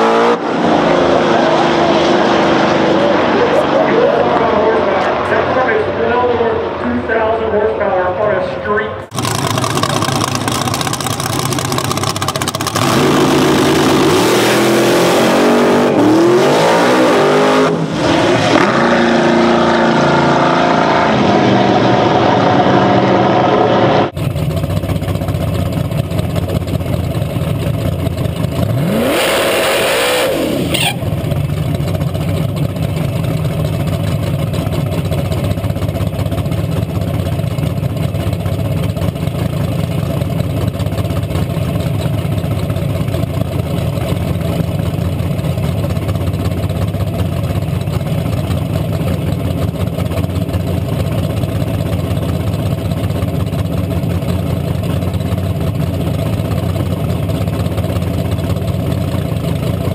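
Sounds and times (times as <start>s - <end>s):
drag car engine accelerating: 0.0s - 59.9s
engine running steadily: 0.0s - 59.9s.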